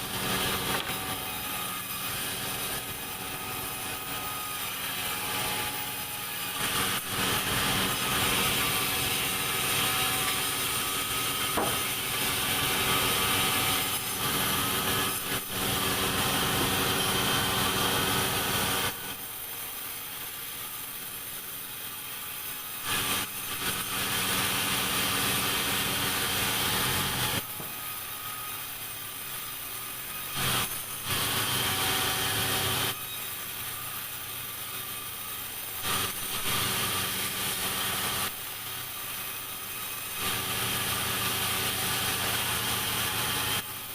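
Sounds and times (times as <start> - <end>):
sawmill saw cutting timber: 0.0 - 43.9.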